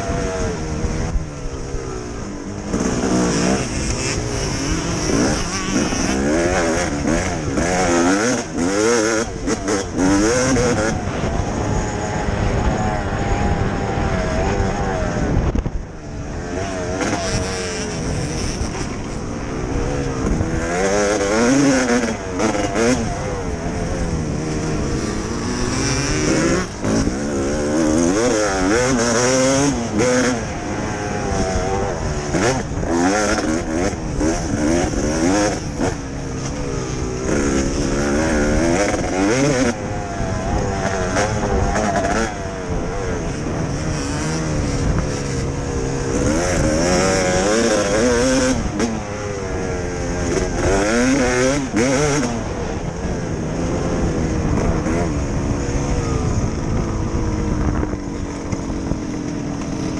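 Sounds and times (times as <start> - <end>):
two-stroke motorcycle engine racing: 0.0 - 59.9.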